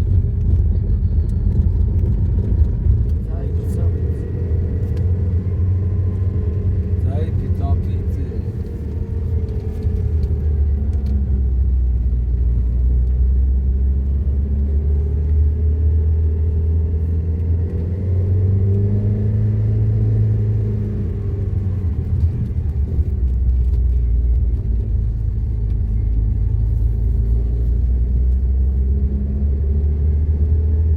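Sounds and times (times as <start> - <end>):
engine rumbling: 0.0 - 30.9.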